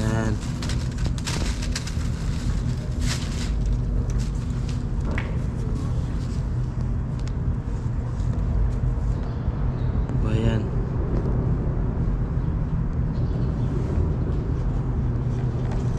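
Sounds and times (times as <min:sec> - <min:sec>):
road traffic rumble: 0:00.0 - 0:15.9.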